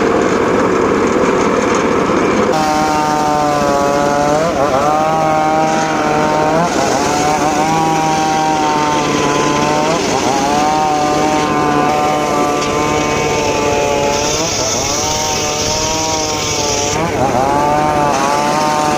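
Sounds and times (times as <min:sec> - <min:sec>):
chainsaw cutting wood: 0:00.0 - 0:18.9.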